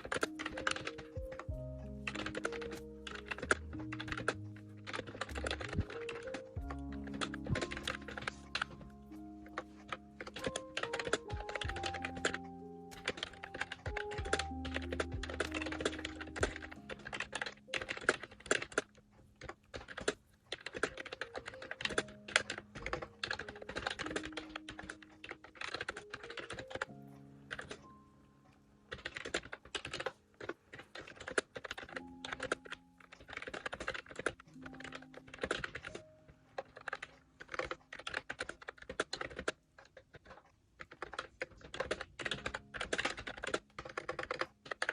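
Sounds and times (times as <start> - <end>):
keyboard typing clicks: 0.0 - 44.9
soft background music: 0.0 - 44.9.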